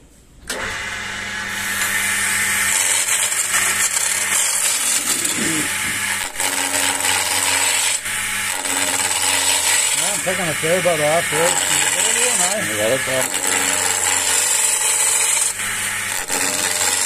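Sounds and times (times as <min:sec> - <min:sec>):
chisel cutting wood on lathe: 0:00.5 - 0:17.0
lathe motor humming: 0:00.5 - 0:17.0.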